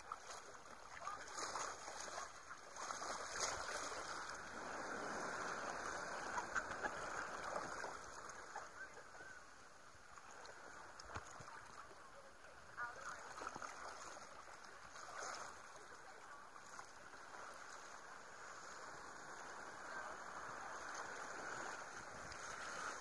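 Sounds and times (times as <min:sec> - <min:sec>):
seawater sloshing and splashing: 0:00.0 - 0:12.0, 0:12.7 - 0:23.0.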